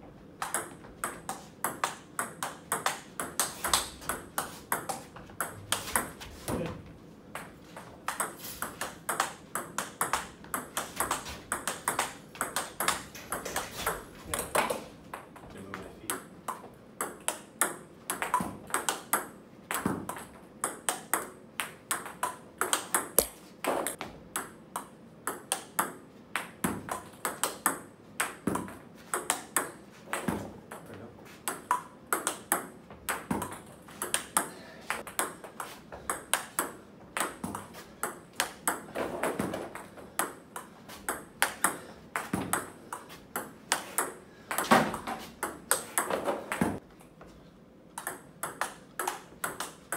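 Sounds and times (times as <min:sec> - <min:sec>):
ping pong balls ticking on table: 0:00.4 - 0:06.1, 0:07.4 - 0:13.7, 0:16.0 - 0:44.8, 0:48.0 - 0:49.9
ball bouncing on floor: 0:00.4 - 0:47.3, 0:48.0 - 0:49.8.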